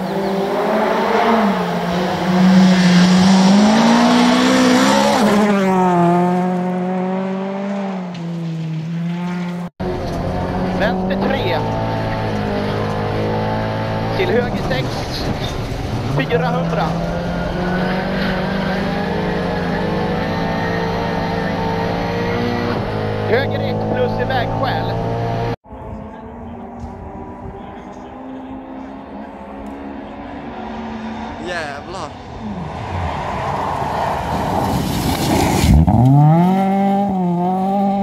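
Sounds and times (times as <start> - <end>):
car engine at high revs: 0.0 - 38.0
gravel and tyre noise: 0.0 - 38.0.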